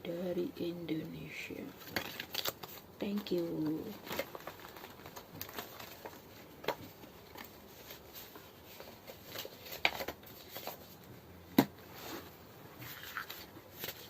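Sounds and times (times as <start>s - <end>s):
paper and cardboard rustling: 1.8s - 14.0s.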